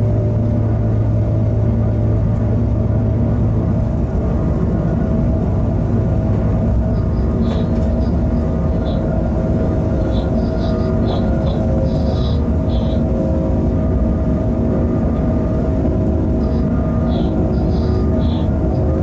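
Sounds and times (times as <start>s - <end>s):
low hum: 0.0s - 19.0s
traction equipment hum: 0.0s - 19.0s
wheels rumbling on rail: 0.0s - 19.0s.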